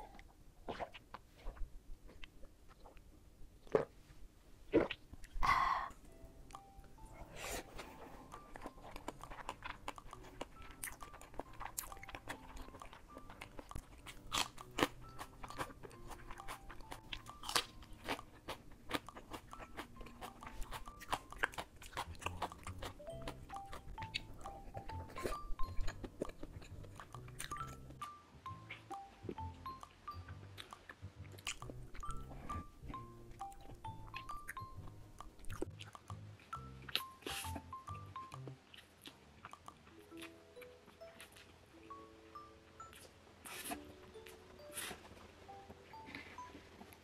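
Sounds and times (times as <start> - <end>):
quiet background music: 0.0 - 47.0
crunching and chewing food: 6.5 - 47.0.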